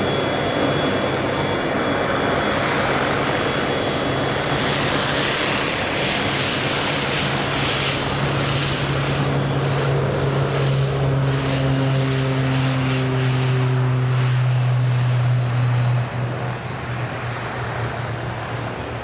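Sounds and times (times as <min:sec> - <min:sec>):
high turbine whine: 0:00.0 - 0:19.0
propeller drone: 0:00.0 - 0:19.0.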